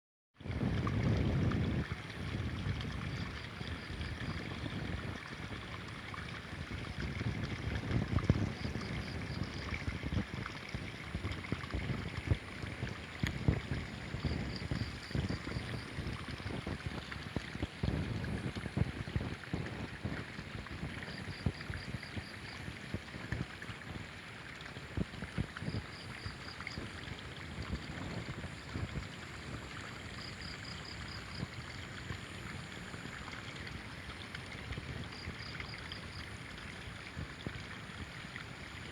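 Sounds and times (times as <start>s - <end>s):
wind buffeting microphone: 0.4s - 24.1s, 24.9s - 38.2s
flowing river water: 0.4s - 38.9s.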